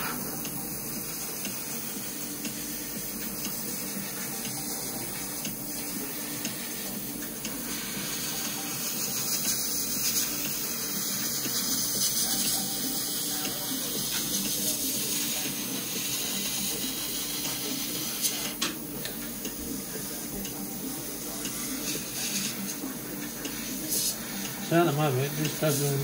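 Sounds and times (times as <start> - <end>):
airbrush hissing: 0.0 - 18.6, 21.5 - 22.8, 23.4 - 26.0.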